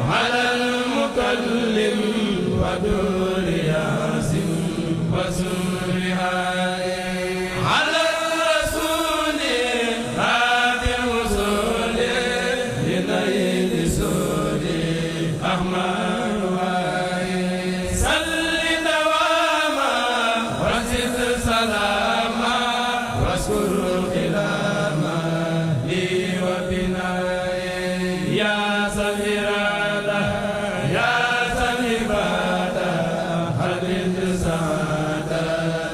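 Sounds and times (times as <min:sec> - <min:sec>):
men chanting together: 0:00.0 - 0:35.9.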